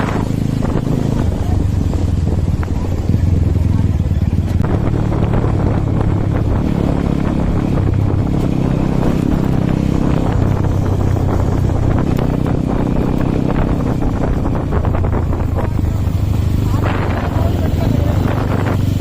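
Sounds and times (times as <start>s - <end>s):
motorcycle engine revving: 0.0s - 19.0s
wind buffeting microphone: 0.0s - 19.0s.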